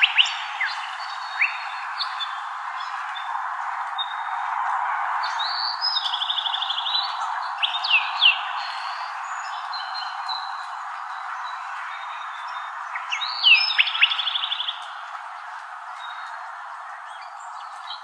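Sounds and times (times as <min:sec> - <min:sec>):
birds chirping: 0:00.0 - 0:04.5, 0:05.1 - 0:18.0.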